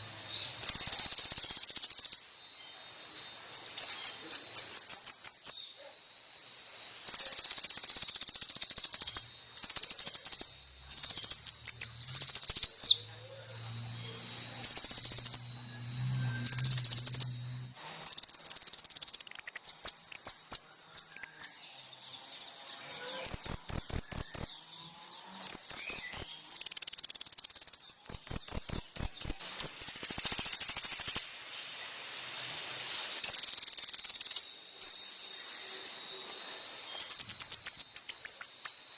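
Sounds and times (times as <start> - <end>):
bird song with buzzy trills: 0.0 - 38.9.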